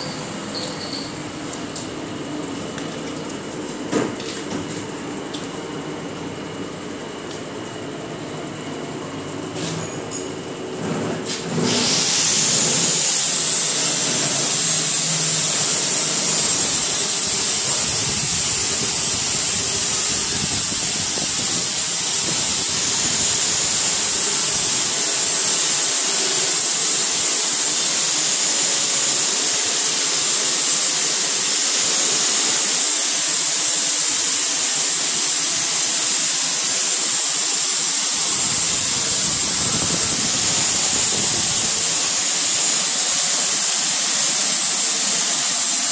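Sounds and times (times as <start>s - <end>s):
pulverizer machine rushing hiss: 0.0s - 2.3s, 10.8s - 45.9s.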